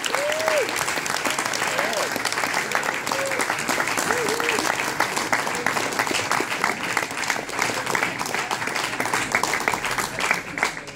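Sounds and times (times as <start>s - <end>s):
audience applauding and cheering: 0.0s - 10.9s.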